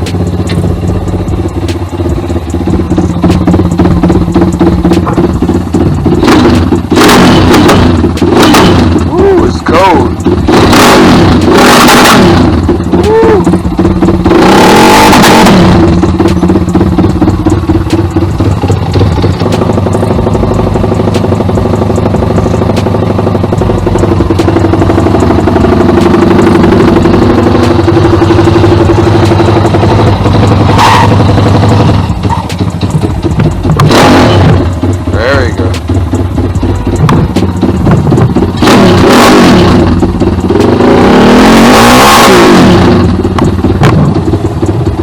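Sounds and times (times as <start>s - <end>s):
engine throttle blips: 0.0s - 45.0s
motorcycle engine running: 0.0s - 45.0s.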